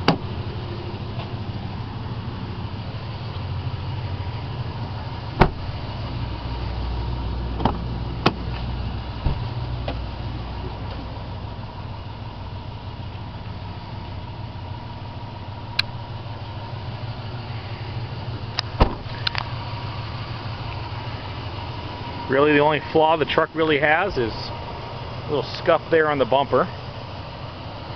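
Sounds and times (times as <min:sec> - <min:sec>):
truck engine idling: 0:00.0 - 0:27.9.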